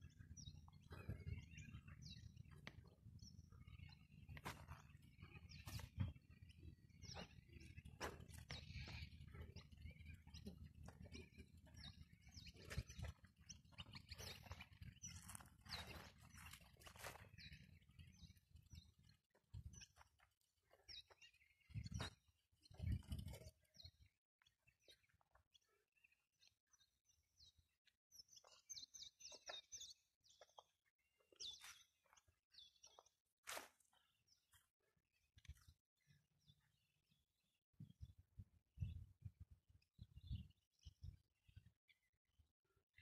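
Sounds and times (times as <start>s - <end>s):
faint bird chirps: 0.0s - 38.2s.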